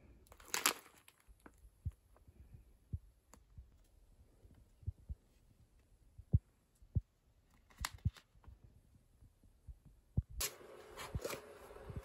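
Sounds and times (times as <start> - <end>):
steady hiss with hum: 1.6 - 12.0.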